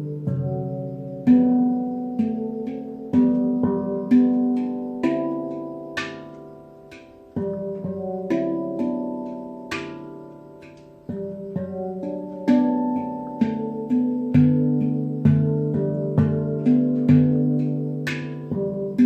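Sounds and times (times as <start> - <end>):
handpan notes ringing: 0.0 - 19.0.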